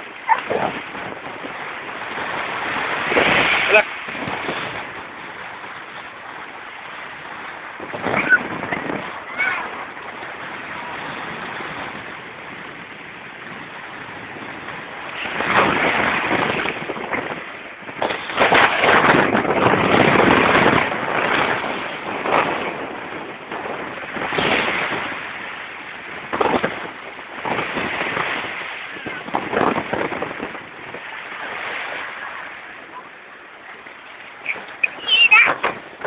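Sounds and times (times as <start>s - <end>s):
sea waves breaking: 0.0s - 36.0s.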